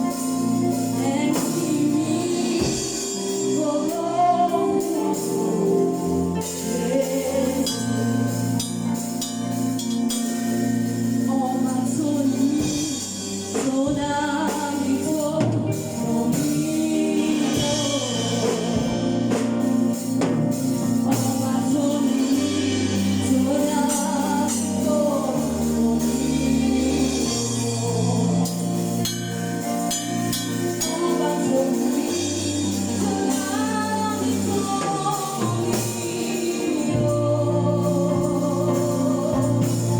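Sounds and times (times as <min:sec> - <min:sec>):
band accompaniment: 0:00.0 - 0:39.9
choir singing gospel music: 0:00.0 - 0:39.9
held bass notes: 0:00.0 - 0:39.9.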